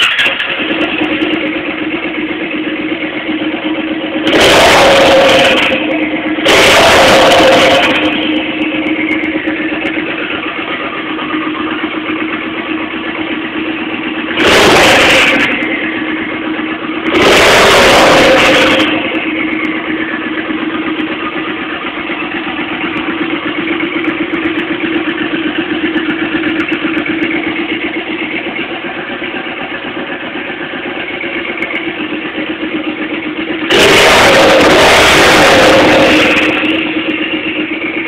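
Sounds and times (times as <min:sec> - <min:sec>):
motorcycle engine idling: 0:00.0 - 0:38.0
motorcycle engine revving: 0:00.0 - 0:38.0.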